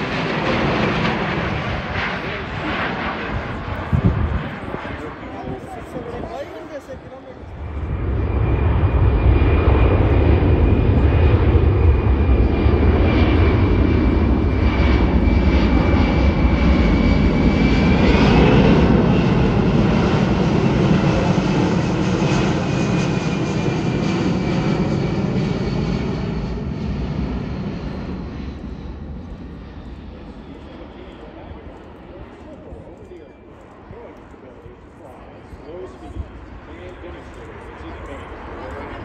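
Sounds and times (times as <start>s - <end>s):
high jet engine whine: 0.0s - 39.0s
jet plane flyby rumble: 0.0s - 39.0s.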